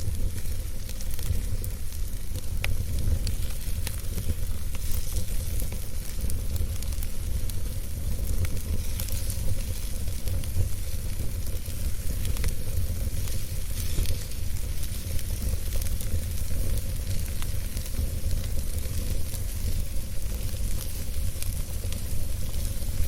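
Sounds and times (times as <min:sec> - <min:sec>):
campfire crackling and popping: 0:00.0 - 0:23.0
steady hiss: 0:00.0 - 0:23.0.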